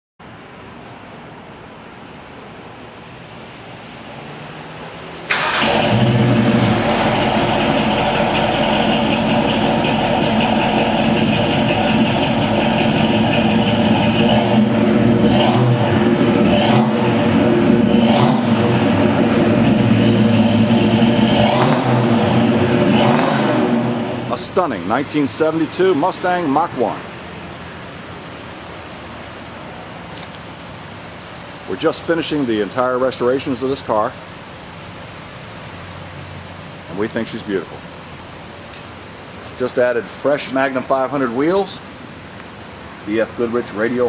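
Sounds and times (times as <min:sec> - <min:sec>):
car engine starting and idling: 0:04.0 - 0:44.0.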